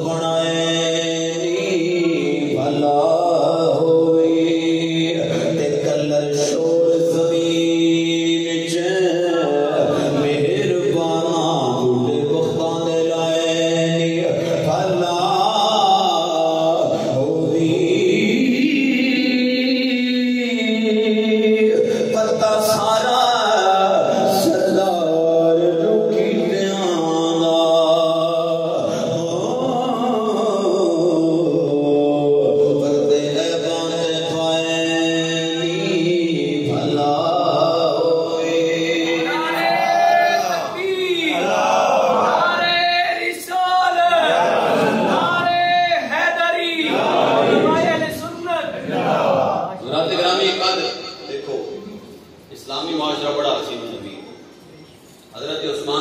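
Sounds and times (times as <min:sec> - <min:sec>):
man chanting into a microphone: 0:00.0 - 0:46.9, 0:47.5 - 0:54.2.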